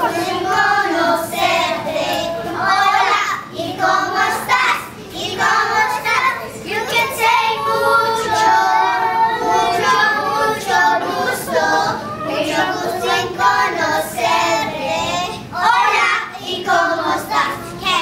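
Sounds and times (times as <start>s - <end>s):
girls singing together: 0.0s - 18.0s.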